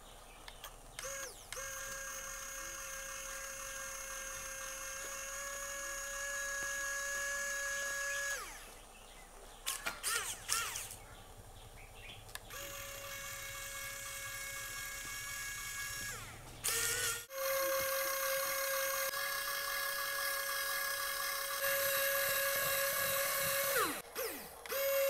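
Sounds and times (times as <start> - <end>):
small electric motor whining: 1.0 - 8.8, 9.7 - 11.0, 12.5 - 25.0.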